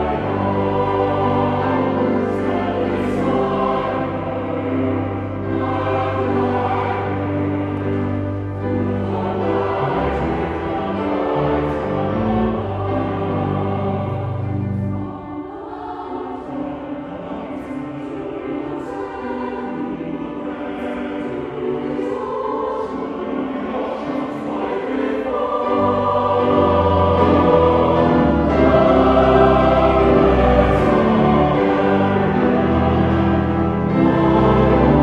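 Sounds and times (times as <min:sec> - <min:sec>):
choir singing with accompaniment: 0:00.0 - 0:35.0.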